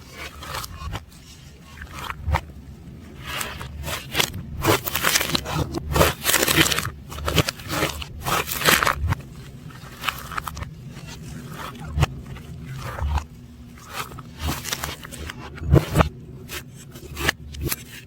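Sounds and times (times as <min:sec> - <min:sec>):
slime squishing reversed: 0:00.0 - 0:18.0
sticky crackles and pops: 0:00.1 - 0:18.0.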